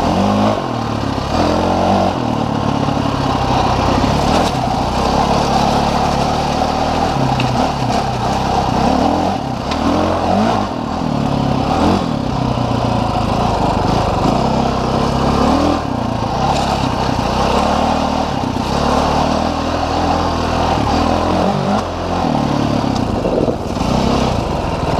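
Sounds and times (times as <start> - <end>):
dirt bike engine running hard: 0.0 - 24.9.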